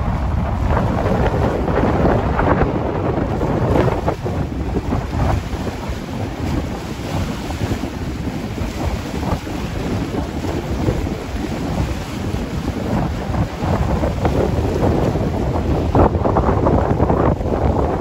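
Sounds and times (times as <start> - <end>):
storm wind gusting: 0.0 - 18.0
wind buffeting microphone: 0.0 - 18.0.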